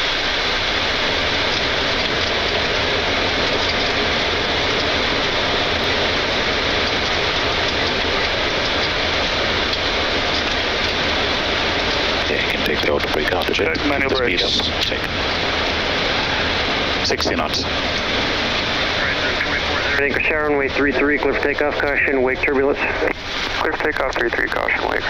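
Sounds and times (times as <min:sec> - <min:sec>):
jet engines reverse thrust rushing: 0:00.0 - 0:25.0.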